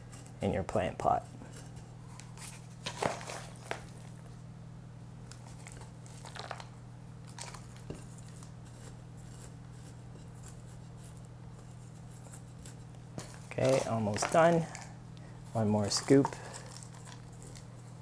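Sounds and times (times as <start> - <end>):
potting mix crunching and rustling: 0.0 - 4.4, 5.2 - 18.0.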